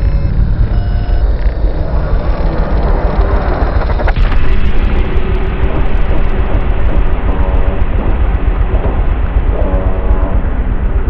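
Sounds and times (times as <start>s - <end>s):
motorcycle engine rumble: 0.0s - 11.0s
wind noise on microphone: 0.0s - 11.0s.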